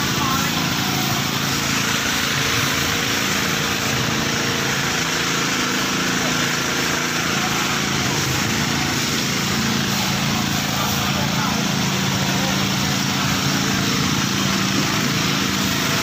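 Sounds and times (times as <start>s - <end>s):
truck engine running: 0.0s - 16.0s
water spraying from hose: 0.0s - 16.0s.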